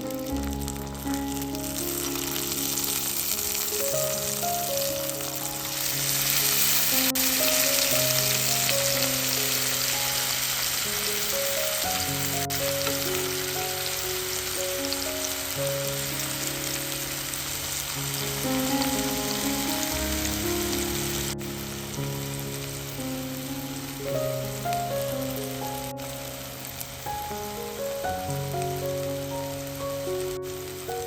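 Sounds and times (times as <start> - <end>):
food sizzling in a pan: 0.0 - 31.0
gentle background music: 0.0 - 31.0.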